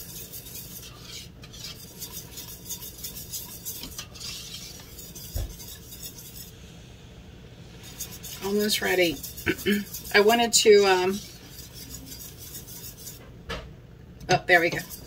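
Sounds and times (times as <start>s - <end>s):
utensil scraping a saucepan: 0.0s - 6.6s, 7.7s - 13.3s, 14.3s - 15.0s.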